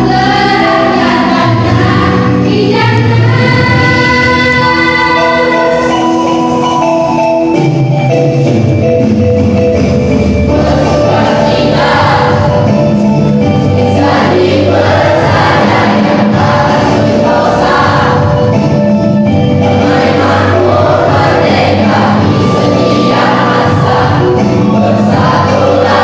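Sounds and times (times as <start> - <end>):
children's choir singing: 0.0 - 6.6, 10.4 - 26.0.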